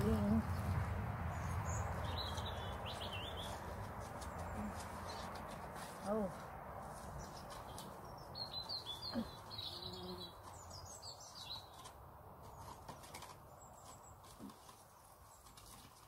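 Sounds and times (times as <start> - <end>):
small bird chirping: 0.0 - 5.4, 7.2 - 15.8.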